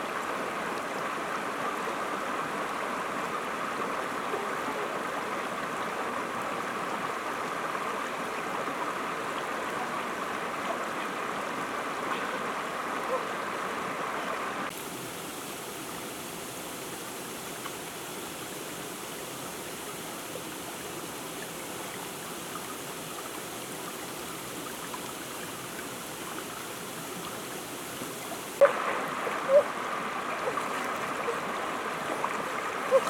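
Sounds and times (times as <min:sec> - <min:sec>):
river water flowing: 0:00.0 - 0:33.0.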